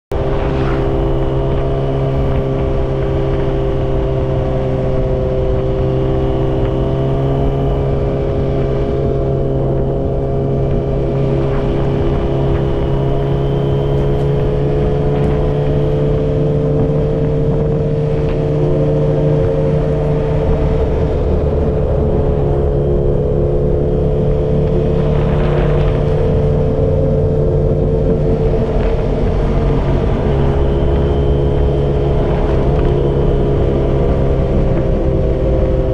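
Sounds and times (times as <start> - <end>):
motorcycle engine running steadily: 0.1 - 35.9.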